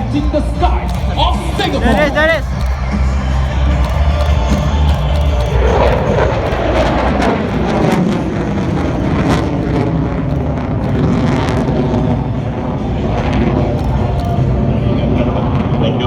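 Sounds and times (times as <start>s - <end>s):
military aircraft engine roar: 0.0s - 16.0s.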